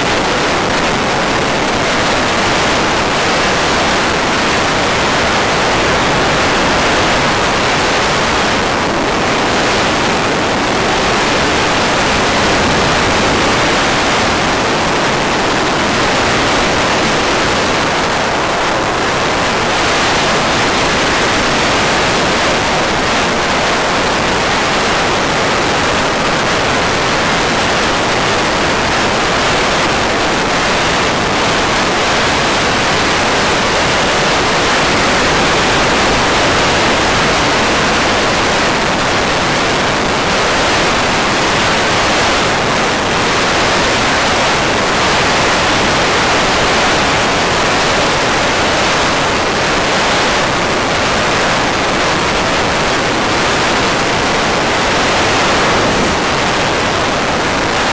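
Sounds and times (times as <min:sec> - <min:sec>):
static hiss: 0:00.0 - 0:57.9.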